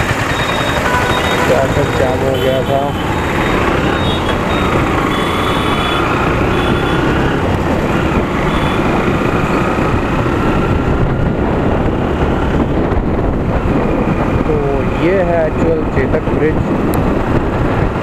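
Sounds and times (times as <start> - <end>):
motorcycle engine accelerating: 0.0 - 15.6
wind rush on microphone: 0.8 - 18.0.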